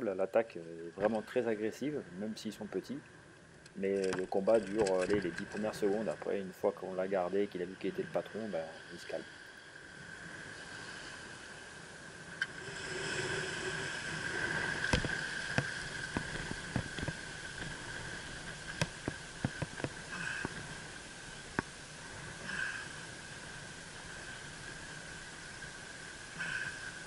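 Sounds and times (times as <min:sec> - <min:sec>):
shallow water: 0:00.0 - 0:27.0
wind hiss: 0:00.0 - 0:27.0.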